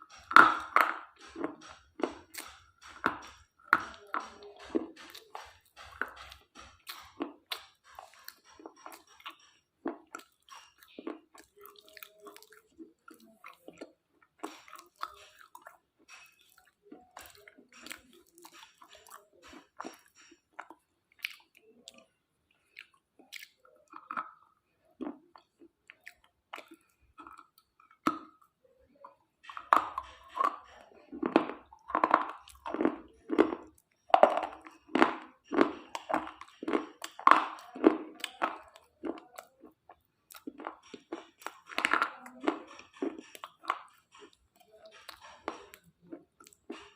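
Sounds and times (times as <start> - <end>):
crunching and chewing: 0.0 - 46.9.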